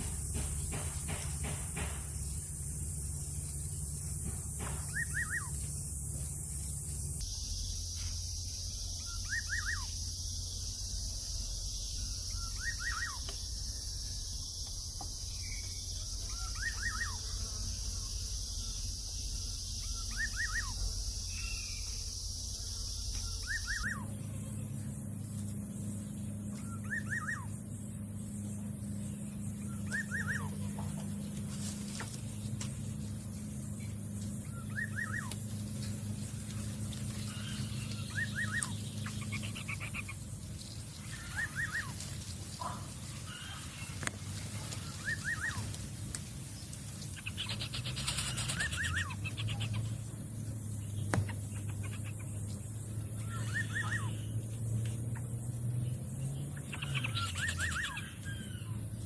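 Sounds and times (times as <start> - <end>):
bird chirping: 0.0 - 7.6, 8.8 - 10.0, 11.7 - 17.3, 18.6 - 22.2, 22.9 - 45.8, 46.5 - 59.0
steady low hum: 0.0 - 59.0.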